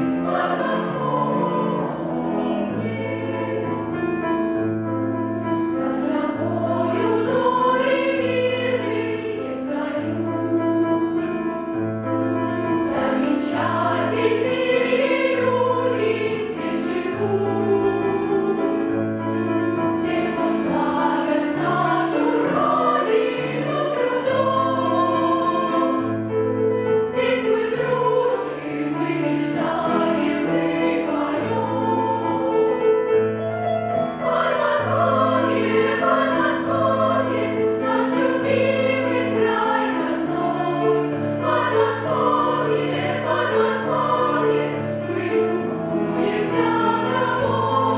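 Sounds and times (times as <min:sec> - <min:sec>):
children's choir singing: 0:00.0 - 0:04.4, 0:05.4 - 0:11.8, 0:12.5 - 0:33.1, 0:34.0 - 0:47.9.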